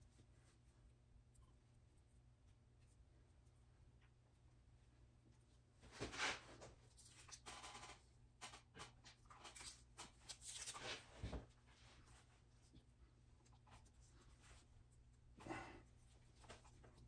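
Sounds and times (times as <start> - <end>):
faint scratching and rustling: 0.0 - 17.0.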